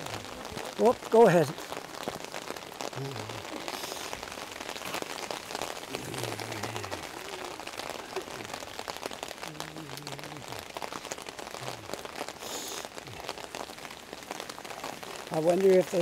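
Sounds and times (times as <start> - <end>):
rain on an umbrella: 0.0 - 16.0.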